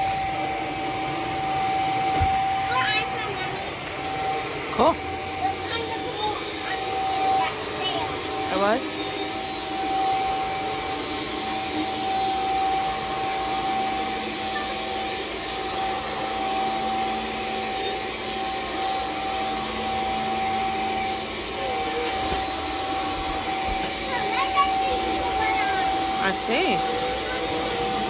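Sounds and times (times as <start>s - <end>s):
stick vacuum cleaner running: 0.0s - 28.0s.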